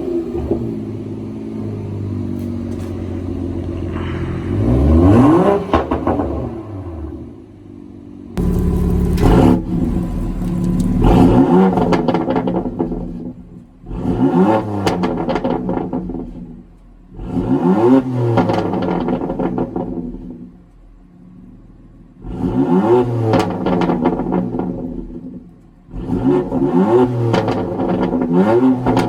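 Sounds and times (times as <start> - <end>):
car engine revving: 0.0 - 20.5, 21.2 - 29.0
exhaust crackles and pops: 2.2 - 7.3, 8.4 - 17.6, 18.2 - 21.6, 23.3 - 29.0.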